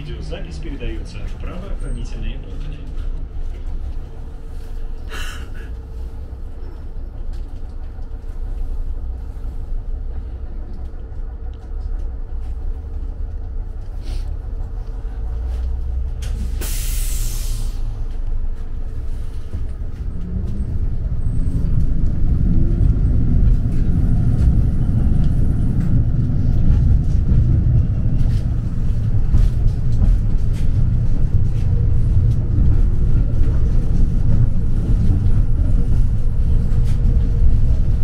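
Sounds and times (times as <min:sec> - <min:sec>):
tram running rumble: 0:00.0 - 0:38.0.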